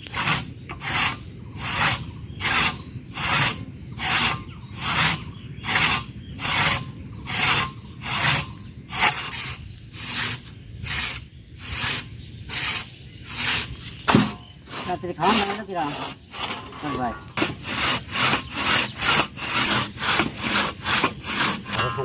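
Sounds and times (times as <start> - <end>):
hand saw cutting wood: 0.0 - 22.0.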